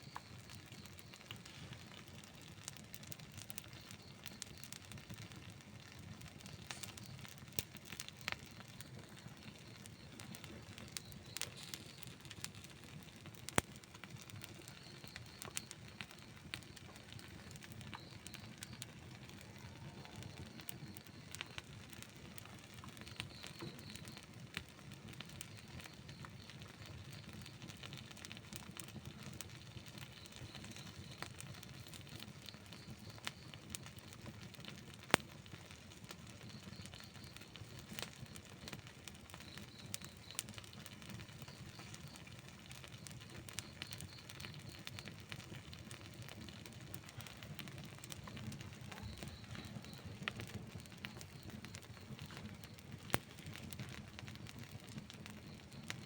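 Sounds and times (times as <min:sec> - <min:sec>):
campfire crackling and popping: 0:00.0 - 0:56.0
fire hissing: 0:00.1 - 0:05.1, 0:05.9 - 0:56.0.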